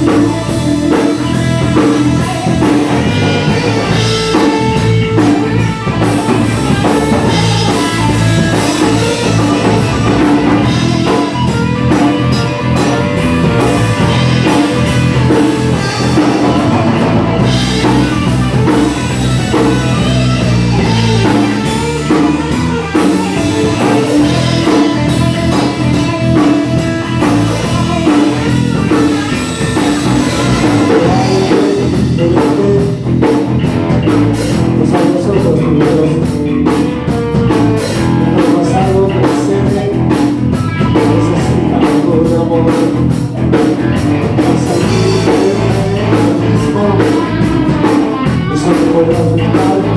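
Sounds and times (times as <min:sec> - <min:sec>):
drum kit beat: 0:00.0 - 0:49.9
electric guitar: 0:00.0 - 0:49.9
rock band playing live: 0:00.0 - 0:49.9.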